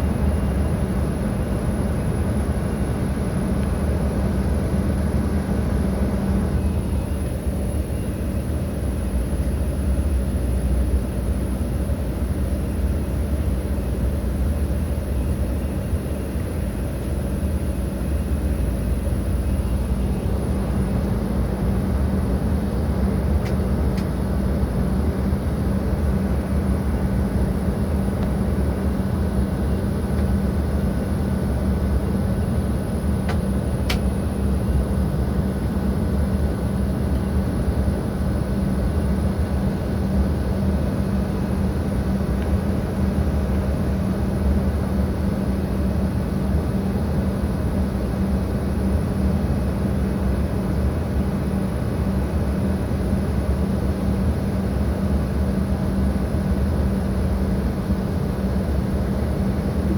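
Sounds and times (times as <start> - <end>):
jet airliner rumble and whine: 0.0 - 59.9.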